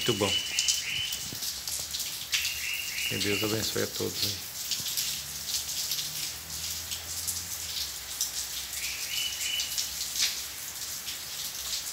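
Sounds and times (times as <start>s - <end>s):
rain on hard ground: 0.0s - 11.9s.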